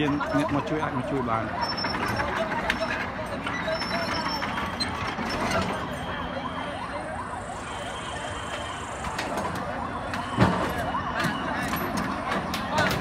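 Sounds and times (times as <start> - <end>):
siren yelp: 0.0 - 3.0, 3.6 - 13.0.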